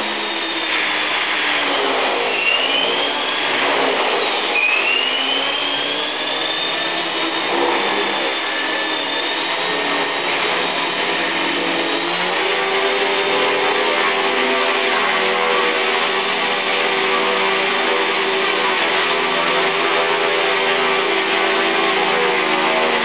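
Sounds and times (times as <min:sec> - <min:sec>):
rc helicopter motor whirring: 0:00.0 - 0:23.0.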